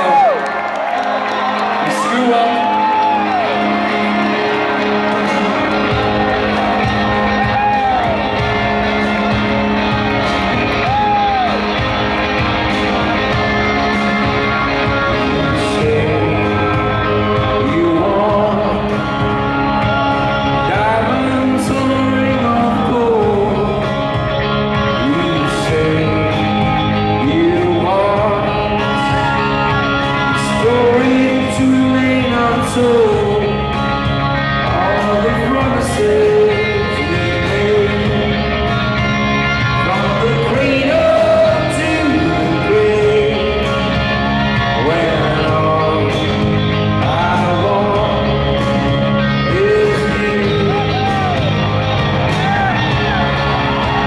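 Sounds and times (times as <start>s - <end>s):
drums: 0.0s - 54.0s
electric guitar: 0.0s - 54.0s
man singing lead vocal: 1.6s - 6.8s, 14.5s - 53.1s.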